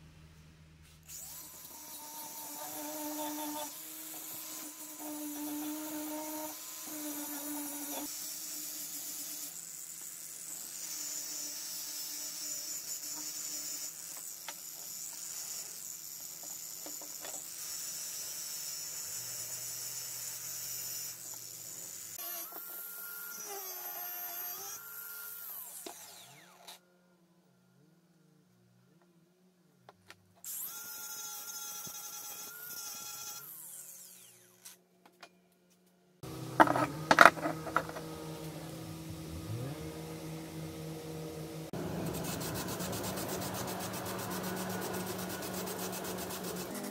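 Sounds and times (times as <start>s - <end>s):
angle grinder grinding metal: 1.1s - 26.8s, 30.5s - 34.8s, 36.2s - 46.9s.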